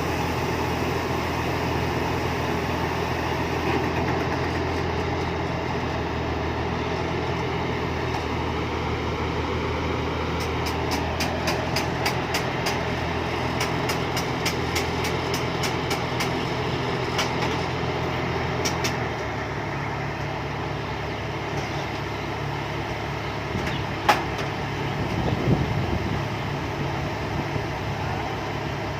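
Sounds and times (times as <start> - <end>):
harvester diesel engine running: 0.0 - 28.9.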